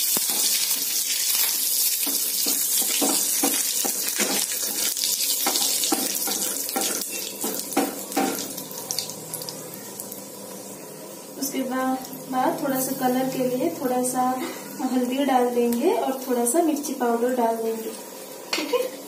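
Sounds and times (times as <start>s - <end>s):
spices sizzling in hot oil: 0.0s - 19.0s.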